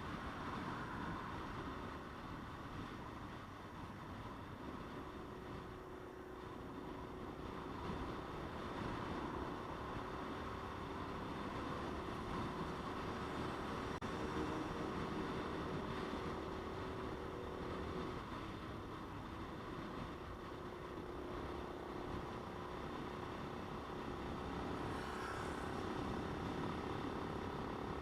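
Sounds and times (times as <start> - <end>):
wind rush on microphone: 0.0 - 28.0.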